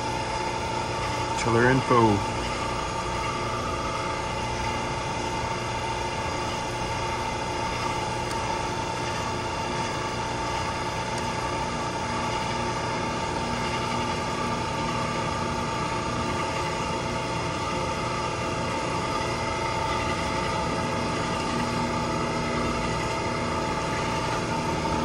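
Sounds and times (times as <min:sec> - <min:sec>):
chiller machinery whine: 0:00.0 - 0:25.0.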